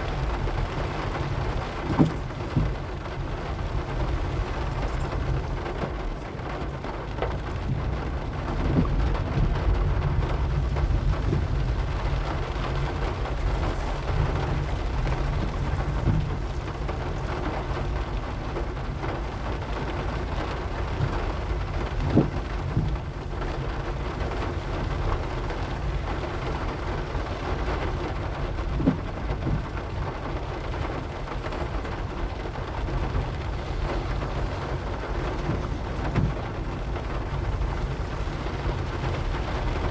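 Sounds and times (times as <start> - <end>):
car driving rumble: 0.0 - 39.9
steady rain: 0.0 - 39.9.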